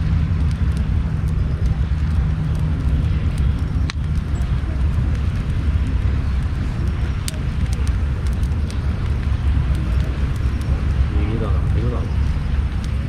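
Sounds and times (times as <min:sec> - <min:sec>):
campfire burning and crackling: 0:00.0 - 0:13.0.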